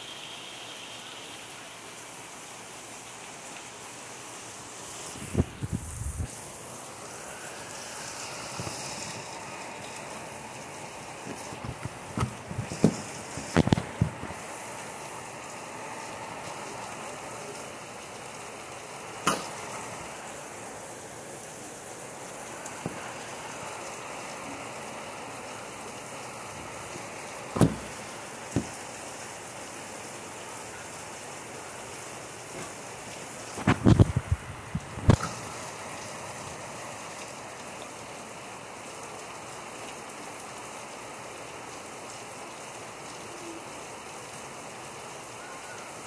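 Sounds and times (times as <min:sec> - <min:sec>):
heavy rain hissing: 0:00.0 - 0:46.0.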